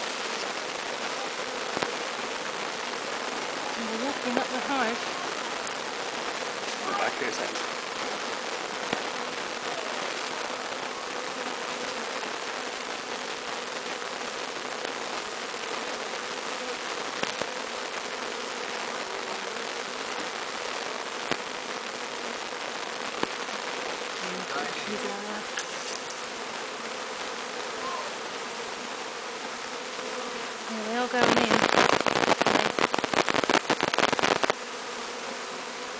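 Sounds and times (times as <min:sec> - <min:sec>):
bee swarm buzzing: 0:00.0 - 0:35.9.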